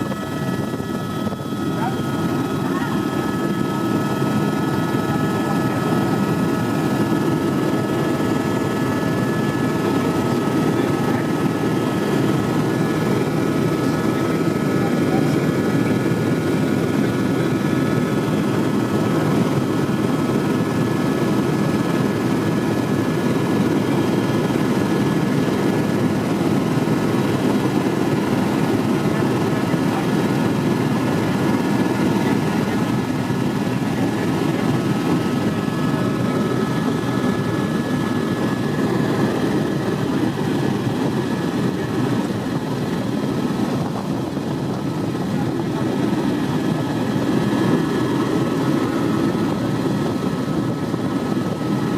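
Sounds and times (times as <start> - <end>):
helicopter rotor and turbine drone: 0.0 - 51.9.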